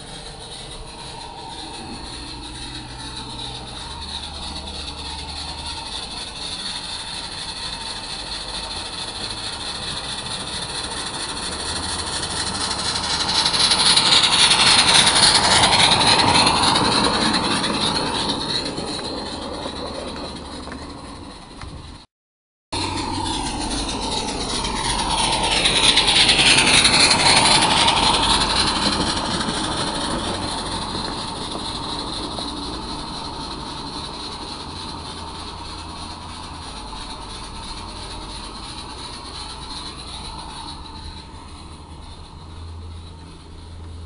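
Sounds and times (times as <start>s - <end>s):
steam locomotive exhaust hissing: 0.0s - 22.1s, 22.7s - 44.0s.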